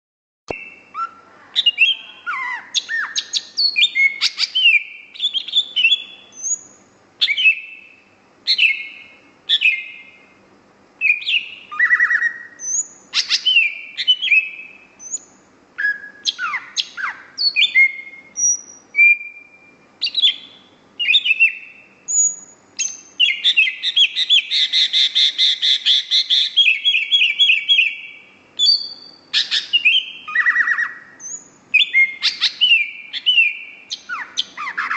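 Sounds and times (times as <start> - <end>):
bird singing whistled notes: 0.5 - 10.4, 11.0 - 34.9.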